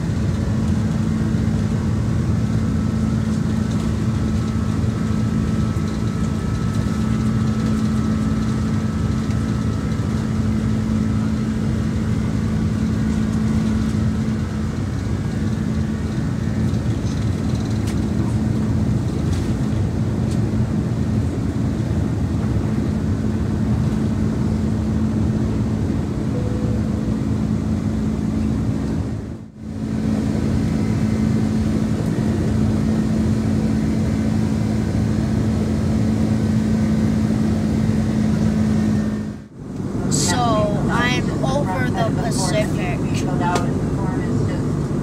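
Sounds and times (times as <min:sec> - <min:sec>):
airliner cabin engine noise: 0:00.0 - 0:45.0
steady low hum: 0:00.0 - 0:45.0.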